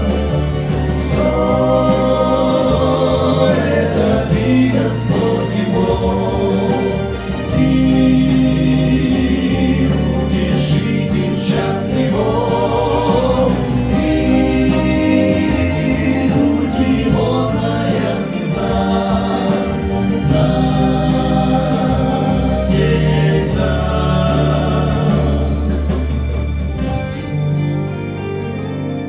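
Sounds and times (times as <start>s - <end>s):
choir singing a hymn: 0.0s - 27.2s.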